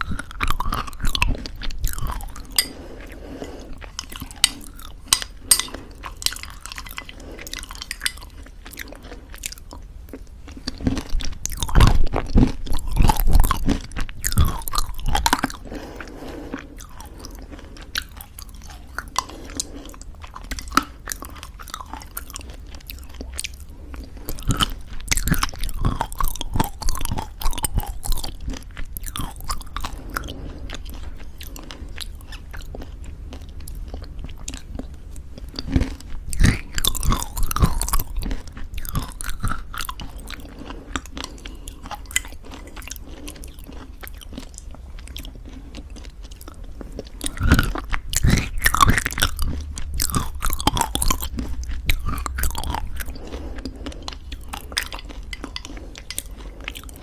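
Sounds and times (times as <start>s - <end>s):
granola chewing crunches: 0.0s - 57.0s.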